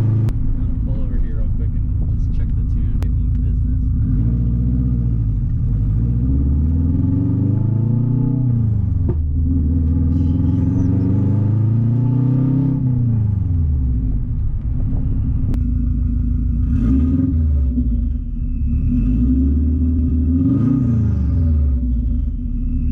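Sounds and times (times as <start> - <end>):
turbocharged car engine revving: 0.0 - 22.9.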